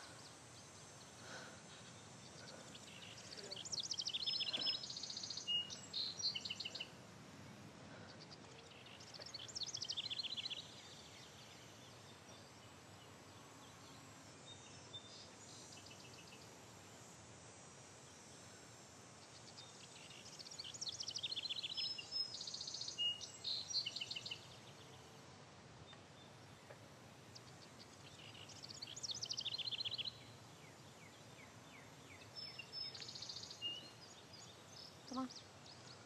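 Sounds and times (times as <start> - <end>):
songbirds trilling: 0.0 - 17.2, 17.9 - 36.0
faint background hiss: 0.0 - 36.0.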